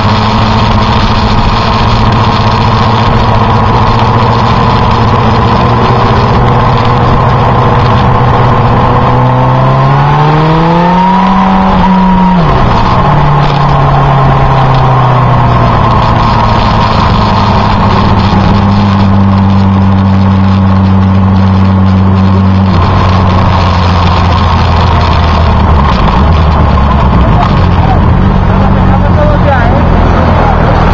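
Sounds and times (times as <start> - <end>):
motorcycle engine cruising: 0.0 - 30.9
wind noise: 0.0 - 30.9.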